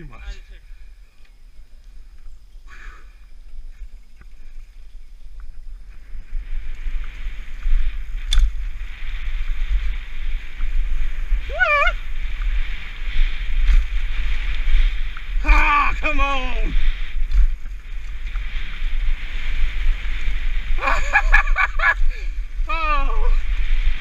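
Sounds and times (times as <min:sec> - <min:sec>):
bike tyres rolling on dirt: 0:00.0 - 0:24.0
wind buffeting microphone: 0:00.0 - 0:24.0.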